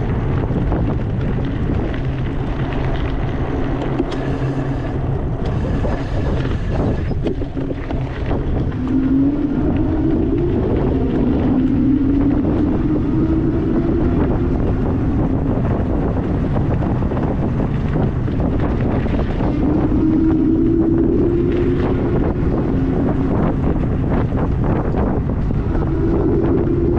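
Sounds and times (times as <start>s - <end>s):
e-bike rumble: 0.0s - 26.9s
wind buffeting microphone: 0.0s - 26.9s
hum rising in pitch: 3.6s - 17.4s, 18.0s - 26.9s.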